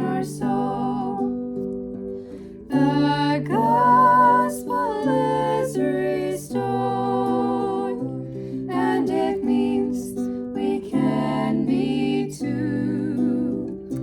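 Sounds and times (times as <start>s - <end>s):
woman singing slow melody: 0.0s - 1.4s, 2.7s - 14.0s
acoustic guitar: 0.0s - 14.0s.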